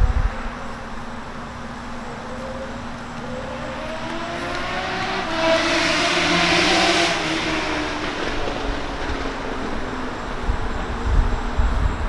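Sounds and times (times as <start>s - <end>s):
motor engine droning: 0.6s - 11.9s.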